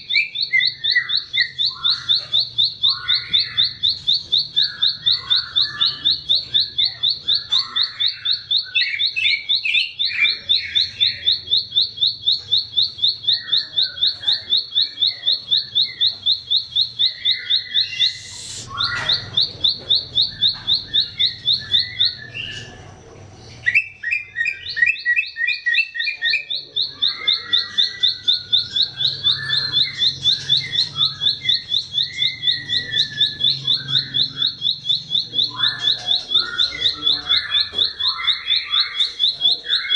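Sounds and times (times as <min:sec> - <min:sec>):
bird singing high sharp notes: 0:00.0 - 0:22.9, 0:23.6 - 0:39.9
lower chirps: 0:00.0 - 0:23.0, 0:23.6 - 0:39.9.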